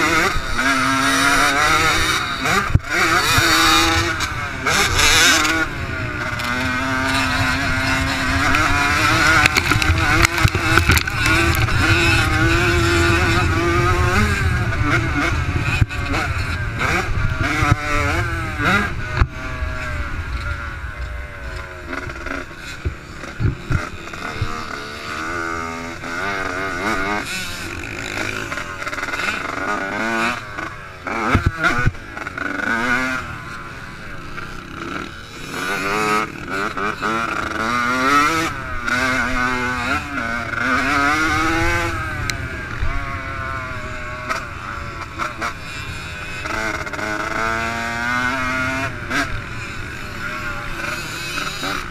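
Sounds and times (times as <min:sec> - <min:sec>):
motocross engine revving: 0:00.0 - 0:51.9.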